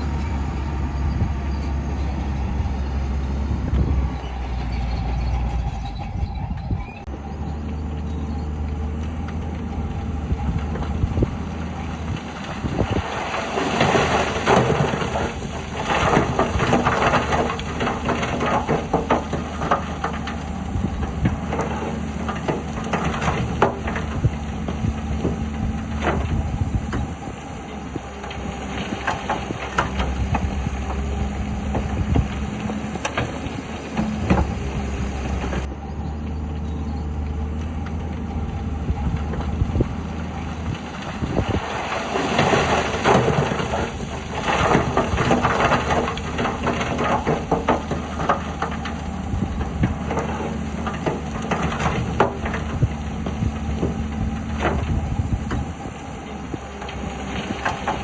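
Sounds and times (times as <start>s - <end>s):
diesel engine running under load: 0.0s - 58.0s
rock and steel crunching and clanking: 7.8s - 35.7s, 36.3s - 58.0s.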